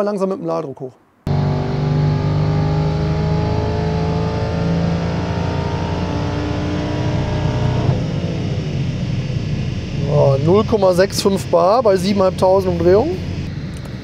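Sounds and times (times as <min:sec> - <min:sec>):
car engine revving at full throttle: 0:01.3 - 0:14.0.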